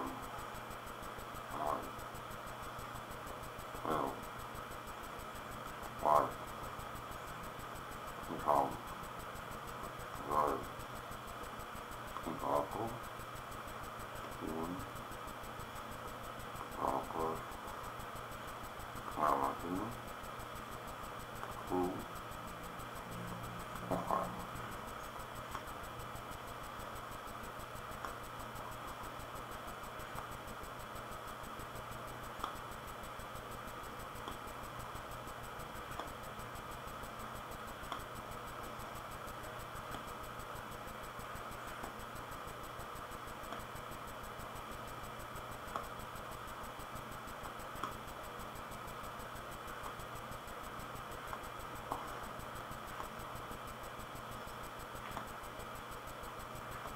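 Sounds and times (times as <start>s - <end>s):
room noise hiss and hum: 0.0s - 56.9s.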